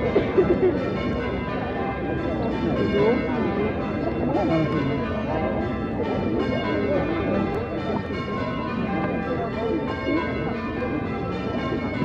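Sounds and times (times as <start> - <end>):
church bells pealing: 0.0 - 12.0
murmur of voices: 0.0 - 12.0.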